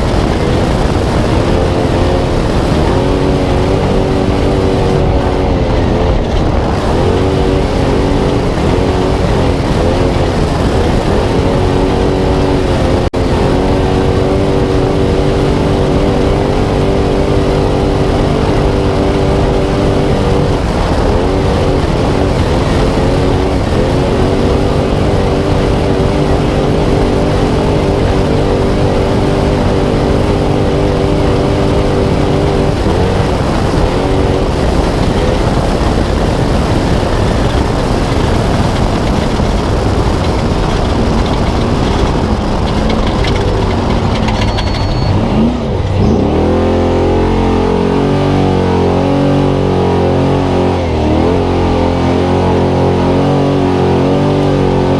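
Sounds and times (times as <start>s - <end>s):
racing truck engine: 0.0s - 54.9s
rushing wind and tyre noise: 0.0s - 54.9s.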